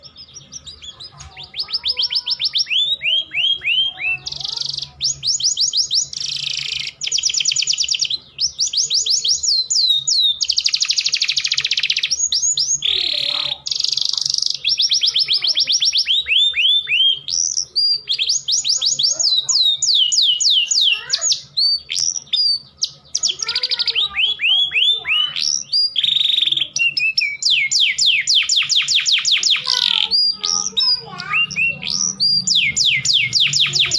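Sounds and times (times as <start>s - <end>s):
canary singing fast trills: 0.0s - 33.9s.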